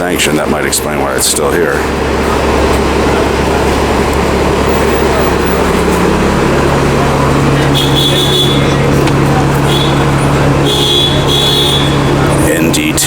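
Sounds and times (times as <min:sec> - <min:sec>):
street traffic: 0:00.0 - 0:13.0
vehicle engine droning: 0:00.0 - 0:13.0.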